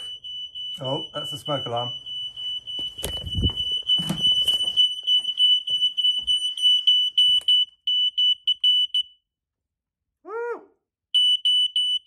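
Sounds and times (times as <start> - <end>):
smoke detector alarm: 0.0 - 9.3, 11.1 - 12.0.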